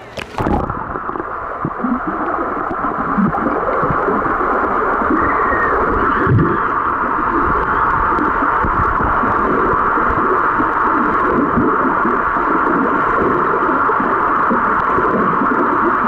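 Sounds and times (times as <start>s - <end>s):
microphone splashing into pool: 0.0s - 16.0s
underwater swimming strokes: 0.0s - 16.0s
underwater hiss: 0.4s - 16.0s.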